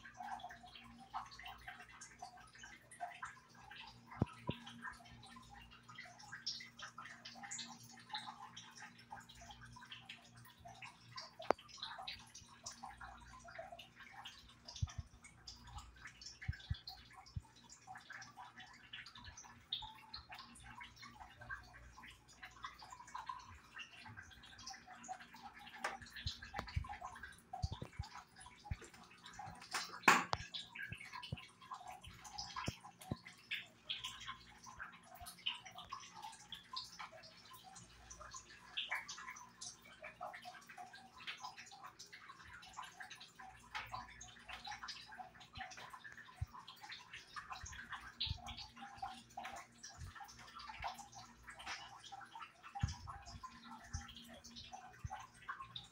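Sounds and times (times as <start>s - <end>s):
faint ticks and crackles: 0.0s - 55.9s.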